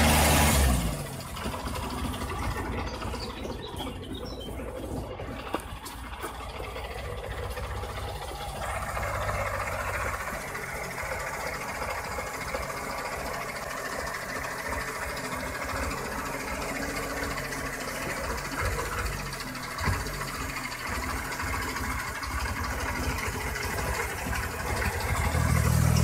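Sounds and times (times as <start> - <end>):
truck engine running at low speed: 0.0 - 26.0.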